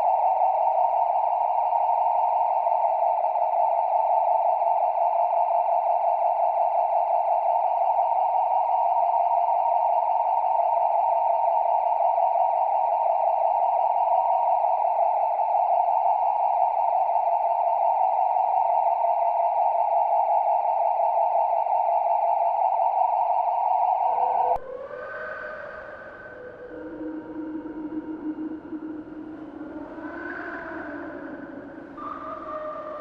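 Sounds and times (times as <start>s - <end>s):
dark ambient hissing drone: 0.0s - 33.0s.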